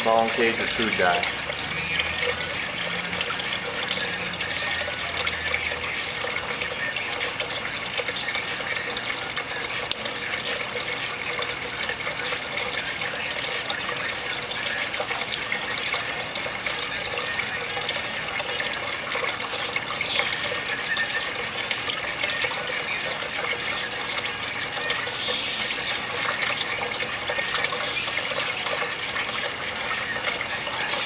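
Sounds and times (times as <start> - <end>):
water running from a tap: 0.0 - 31.0.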